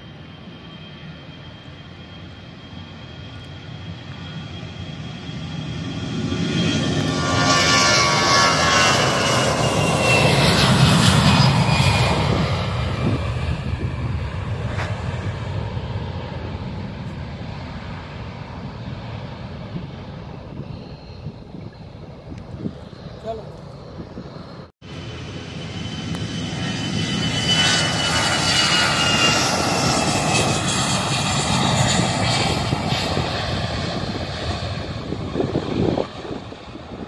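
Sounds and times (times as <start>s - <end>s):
jet airliner engine roar: 0.0s - 37.0s.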